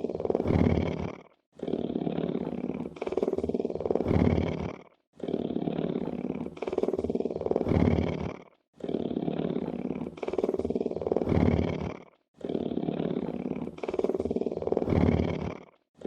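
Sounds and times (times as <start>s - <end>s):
big cat purring: 0.0s - 16.0s.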